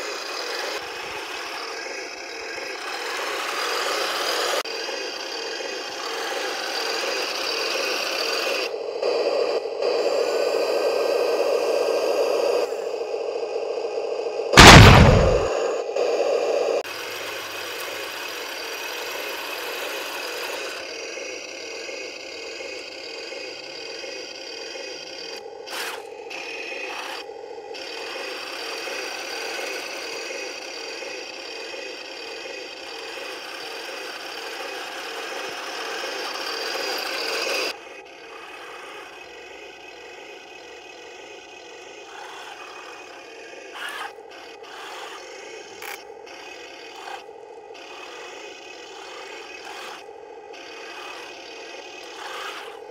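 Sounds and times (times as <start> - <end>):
toy tank motor and tracks rasping: 0.0 - 14.5, 16.1 - 52.9.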